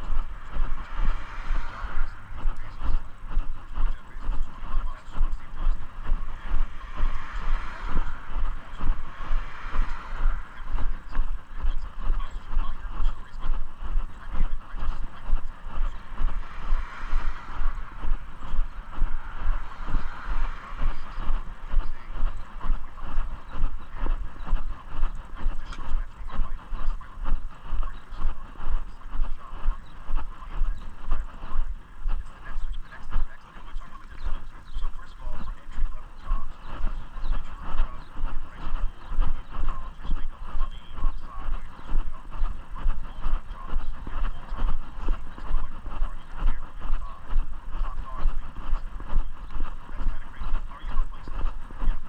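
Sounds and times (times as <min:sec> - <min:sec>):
background noise: 0:00.0 - 0:52.0
steady rushing noise: 0:00.0 - 0:52.0.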